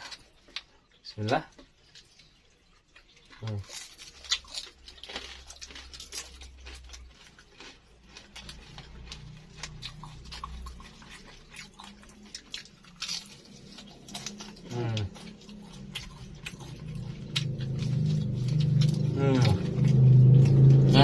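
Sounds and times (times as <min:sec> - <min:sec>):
crunchy biting and chewing: 0:00.0 - 0:21.0.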